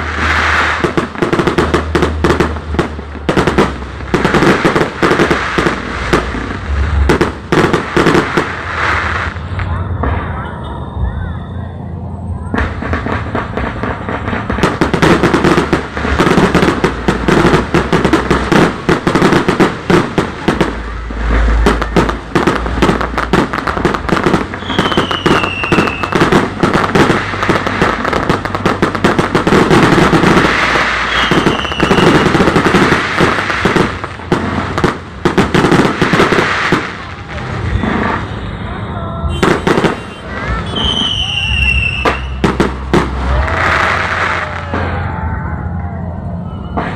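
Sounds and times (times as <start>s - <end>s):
firework whistles: 0.0s - 2.6s, 3.2s - 46.9s
fireworks bursts and crackling: 0.0s - 46.9s.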